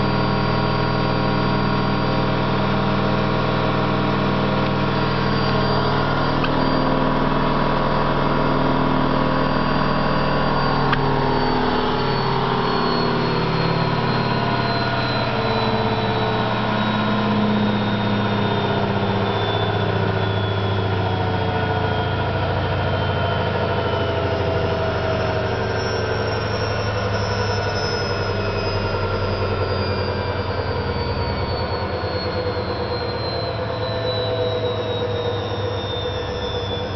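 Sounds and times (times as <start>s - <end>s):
high whine: 0.0s - 36.9s
washing machine spinning: 0.0s - 36.9s.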